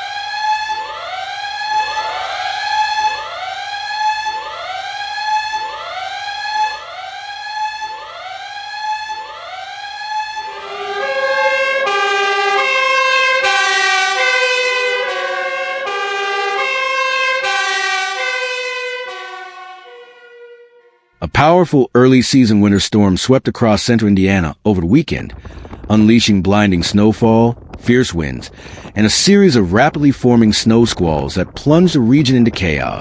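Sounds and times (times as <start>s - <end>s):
emergency sirens: 0.0s - 21.1s, 25.0s - 33.0s.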